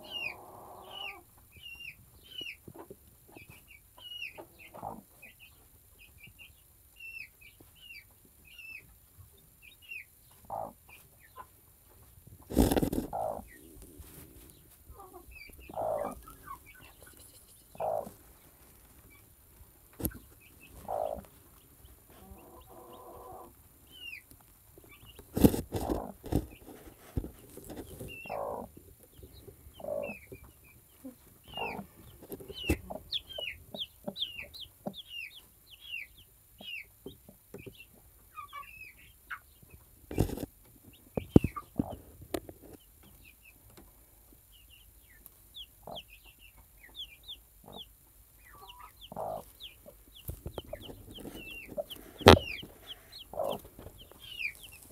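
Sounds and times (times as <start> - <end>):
hen clucking: 0.0 - 5.6, 9.7 - 43.8, 44.5 - 54.9
chicks peeping: 0.0 - 54.9.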